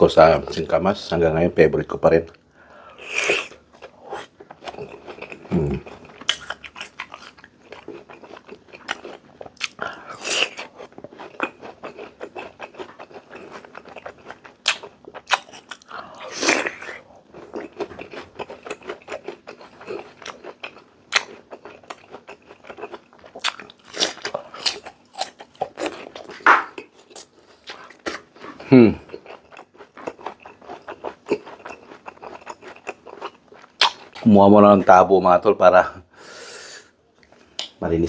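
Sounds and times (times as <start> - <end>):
crunching and chewing: 2.3 - 34.4.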